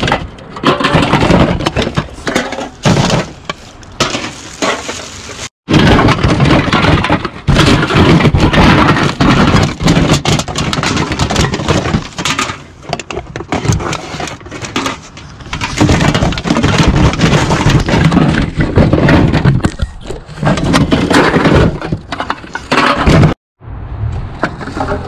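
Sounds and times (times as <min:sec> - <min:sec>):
bottles and cans clattering: 0:00.0 - 0:23.4.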